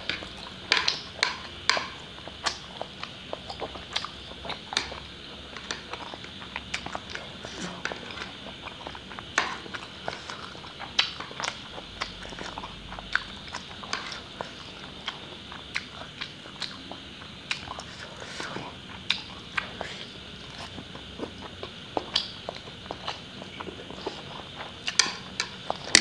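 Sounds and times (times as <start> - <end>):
person chewing and slurping noodles: 0.0 - 26.0.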